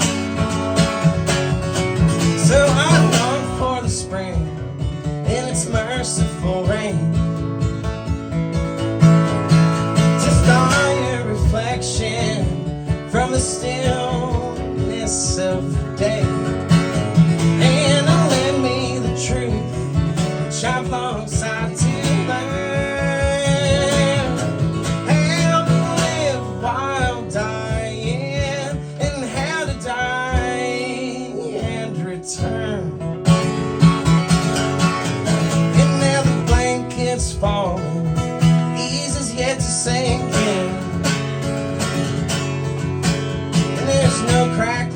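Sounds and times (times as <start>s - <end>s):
acoustic guitar strumming: 0.0s - 44.9s.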